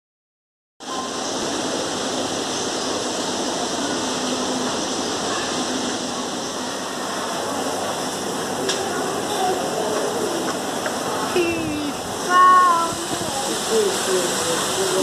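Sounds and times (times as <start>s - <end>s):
steady rushing noise: 1.3s - 15.0s.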